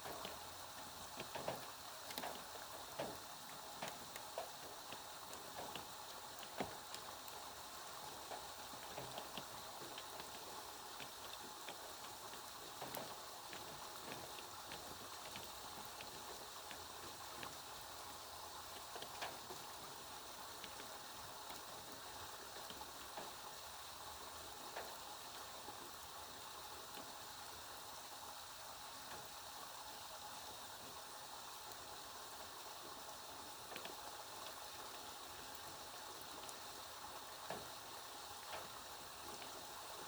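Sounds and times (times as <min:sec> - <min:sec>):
rain hiss: 0:00.0 - 0:40.0
raindrops ticking on a surface: 0:00.0 - 0:40.0.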